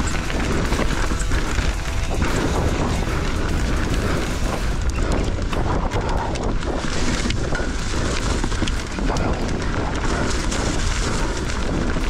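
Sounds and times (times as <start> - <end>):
bike chain and frame rattling: 0.0 - 12.0
wind buffeting microphone: 0.0 - 12.0.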